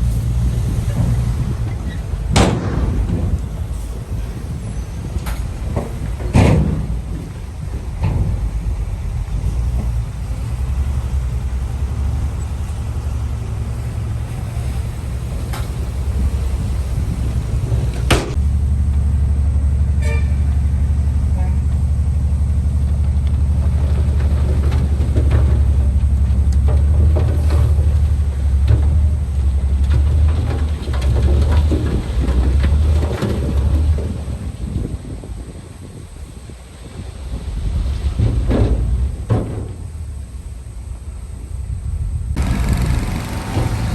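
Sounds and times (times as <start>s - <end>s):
clanks and crackles from tracks: 0.0s - 19.1s, 21.3s - 43.9s
diesel machinery rumbling: 0.0s - 43.9s.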